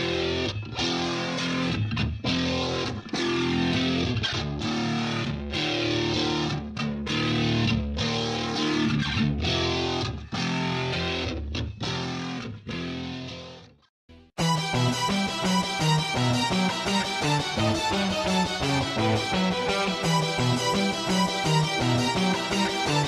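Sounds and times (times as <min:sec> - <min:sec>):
rock music with distorted guitar: 0:00.0 - 0:13.6, 0:14.4 - 0:23.0.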